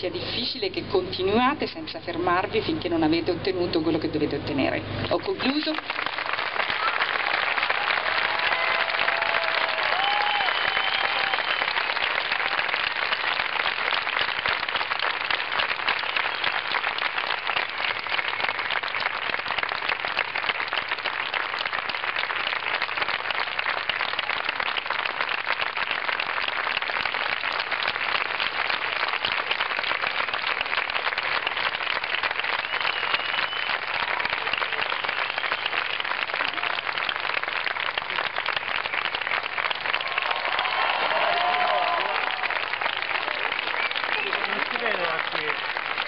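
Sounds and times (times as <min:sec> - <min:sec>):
large crowd applauding: 0:05.0 - 0:46.0.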